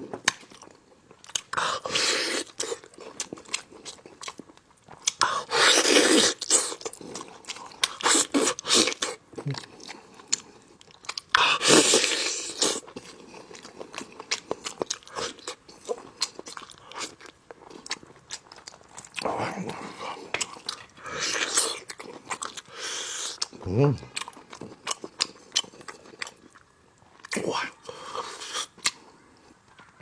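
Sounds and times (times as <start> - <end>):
wet chewing and biting: 0.0 - 30.0.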